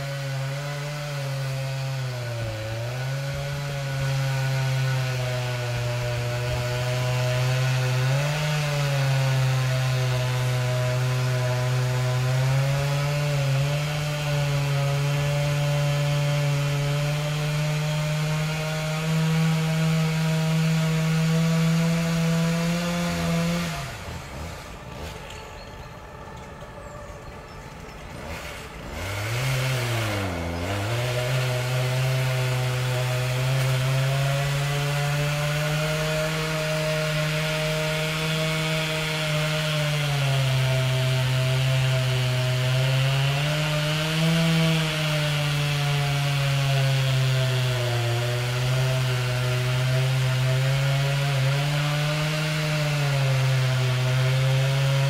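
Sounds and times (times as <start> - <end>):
chainsaw running and revving: 0.0 - 55.0.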